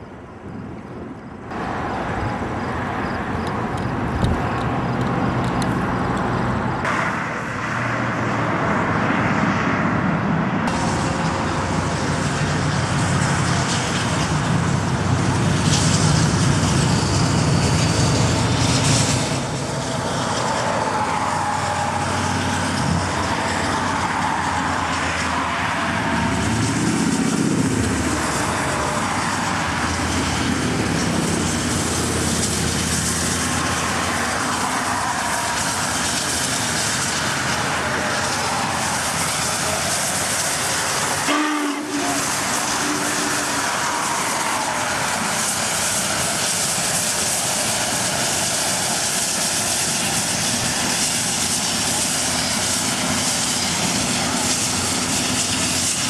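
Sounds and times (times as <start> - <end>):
road noise from moving car: 0.0 - 56.0
steam locomotive rolling by: 0.0 - 56.0.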